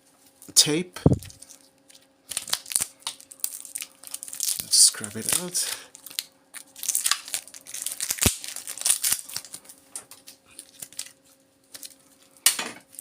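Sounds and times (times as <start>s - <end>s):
tape and insulation crinkling: 0.1s - 13.0s.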